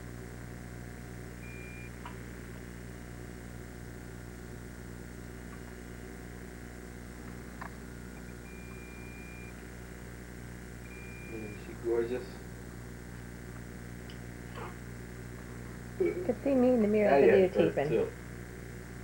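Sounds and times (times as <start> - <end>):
camcorder running hum: 0.0 - 19.0.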